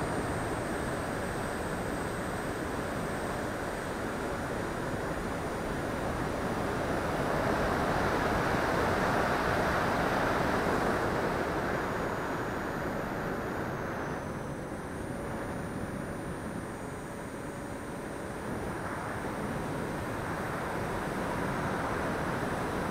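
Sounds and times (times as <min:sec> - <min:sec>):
faint high whine: 0:00.0 - 0:22.9.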